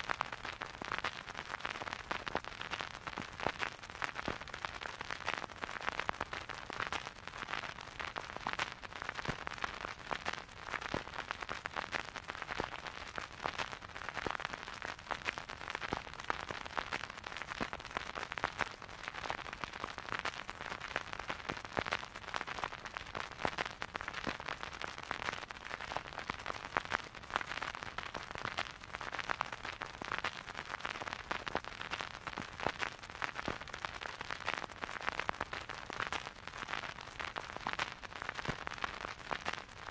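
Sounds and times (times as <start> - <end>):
vinyl record crackle and pops: 0.0 - 39.9.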